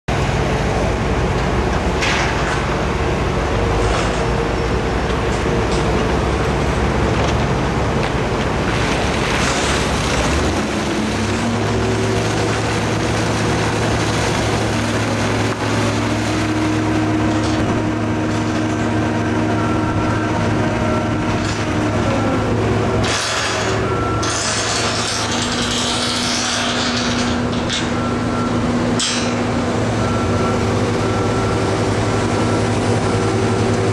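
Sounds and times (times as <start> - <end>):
engine hum: 0.1 - 33.9
heavy machinery running: 0.1 - 33.9.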